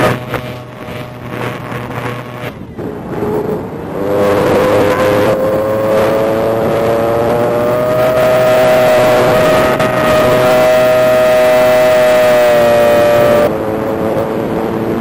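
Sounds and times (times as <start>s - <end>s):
electric motor propeller whine: 0.0s - 15.0s.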